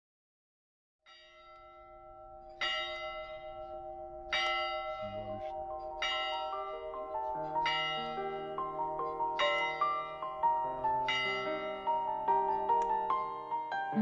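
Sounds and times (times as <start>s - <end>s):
church bell tolling: 1.1s - 14.0s
tune of bell-like notes: 1.1s - 14.0s.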